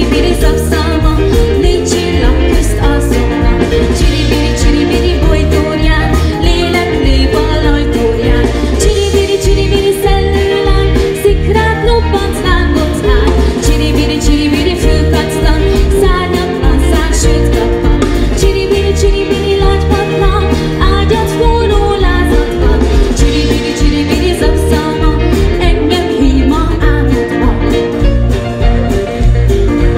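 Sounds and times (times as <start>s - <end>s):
woman singing through pa: 0.0s - 27.8s
drum kit steady beat: 0.0s - 29.9s
electric bass guitar: 0.0s - 29.9s
electric guitar: 0.0s - 29.9s
electric keyboard: 0.0s - 29.9s.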